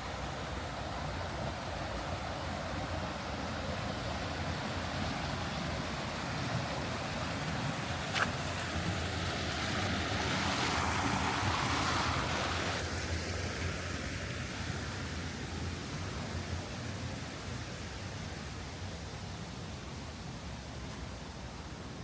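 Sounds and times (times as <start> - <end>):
street traffic hiss: 0.0 - 22.0.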